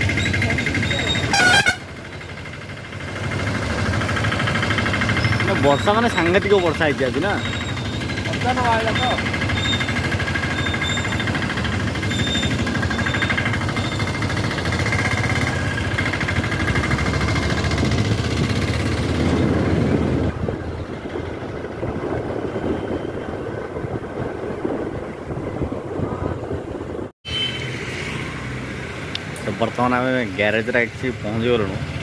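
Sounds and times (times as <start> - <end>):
scooter engine running: 0.0 - 26.0
road and wind noise: 0.0 - 32.0.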